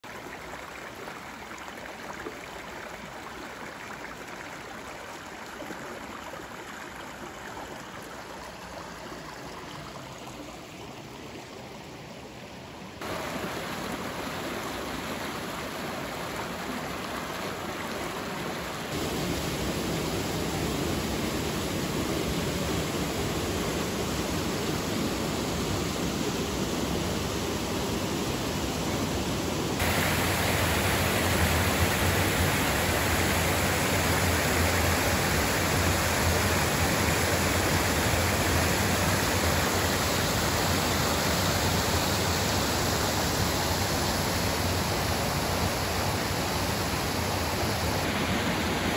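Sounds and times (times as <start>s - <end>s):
creek water rushing over stones: 0.0s - 48.9s.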